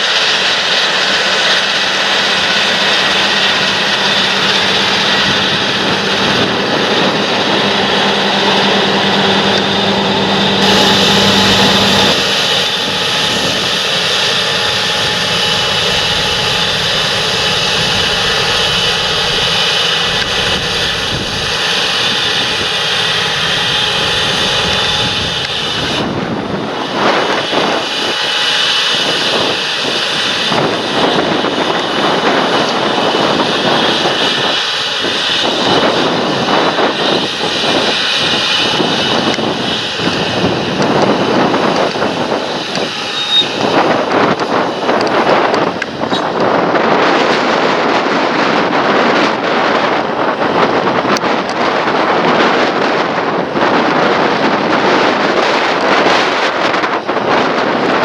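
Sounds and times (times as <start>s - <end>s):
tractor diesel engine running: 0.0s - 48.1s.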